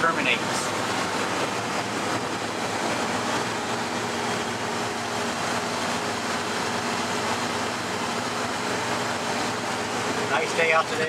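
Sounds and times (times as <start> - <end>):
faint low engine hum: 0.0 - 11.0
road and wind noise in car: 0.0 - 11.0.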